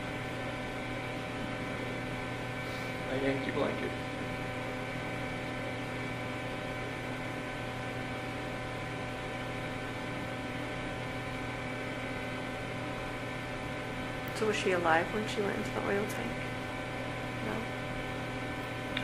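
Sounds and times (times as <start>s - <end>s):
electrical hum and hiss: 0.0s - 19.0s.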